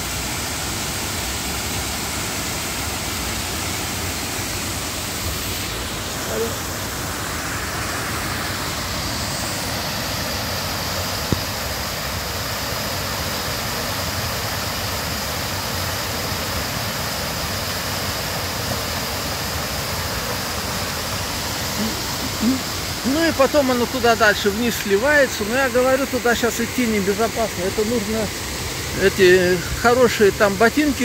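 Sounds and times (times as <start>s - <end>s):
creek rushing over waterfall: 0.0s - 31.0s.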